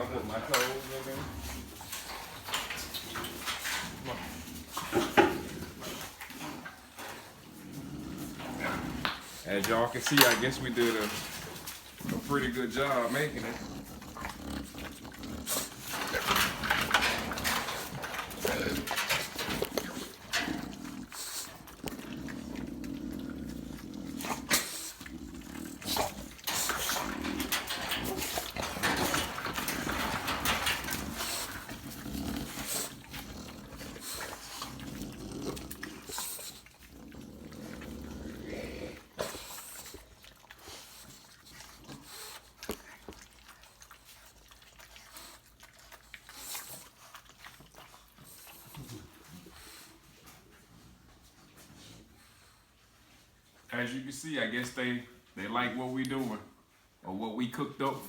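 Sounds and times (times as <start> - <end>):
puppies grunting and growling: 0.0 - 52.8
puppies eating wetly: 0.0 - 58.0.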